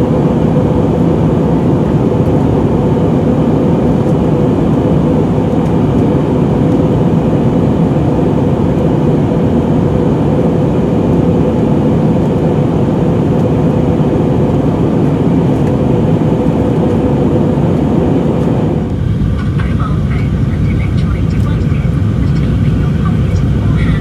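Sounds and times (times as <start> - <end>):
airplane cabin roar: 0.0 - 24.0
steady hum: 0.0 - 24.0.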